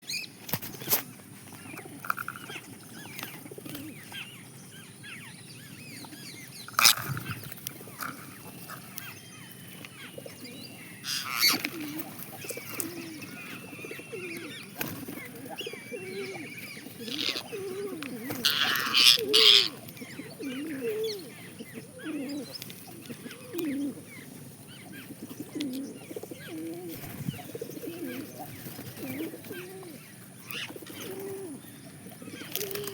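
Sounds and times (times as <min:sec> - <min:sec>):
bird cooing calls: 0:01.5 - 0:32.9.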